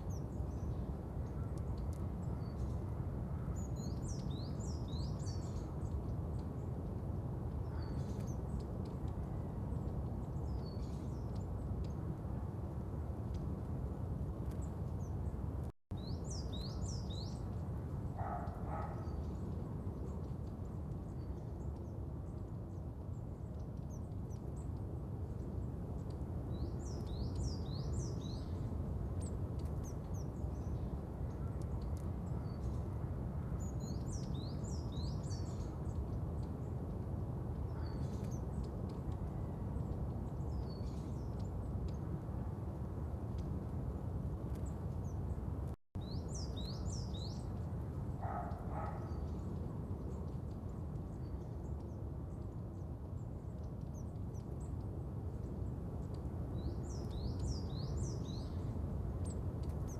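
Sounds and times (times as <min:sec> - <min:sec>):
small birds chirping: 0:00.0 - 0:59.9
steady low background noise: 0:00.0 - 0:59.9.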